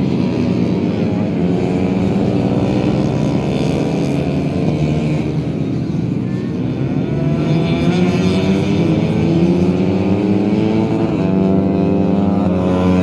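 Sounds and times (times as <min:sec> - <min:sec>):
motors revving: 0:00.1 - 0:13.0.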